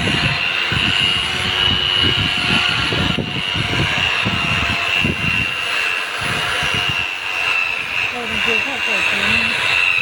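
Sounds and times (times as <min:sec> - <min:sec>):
electric polisher whine: 0:00.0 - 0:10.0
low rumbling: 0:00.0 - 0:10.0.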